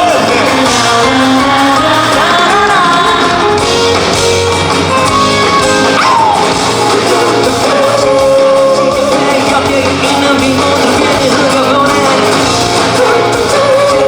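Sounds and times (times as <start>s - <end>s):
person singing: 0.0s - 4.0s, 4.9s - 14.0s
live rock band playing: 0.0s - 14.0s.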